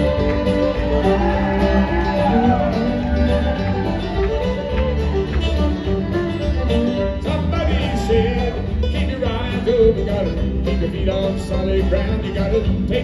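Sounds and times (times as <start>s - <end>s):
acoustic guitar: 0.0s - 13.0s
banjo: 0.0s - 13.0s
drums: 0.0s - 13.0s
electric bass: 0.0s - 13.0s.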